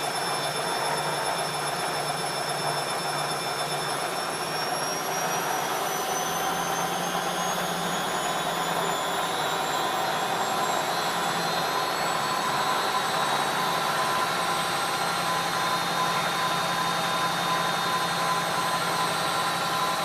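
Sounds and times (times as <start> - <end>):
high motor whine: 0.0 - 20.0
washing machine running: 0.0 - 20.0.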